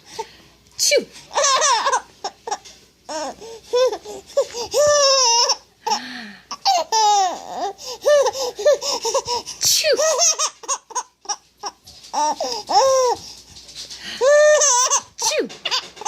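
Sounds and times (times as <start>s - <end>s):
baby laughing: 1.3s - 13.3s, 14.2s - 16.0s.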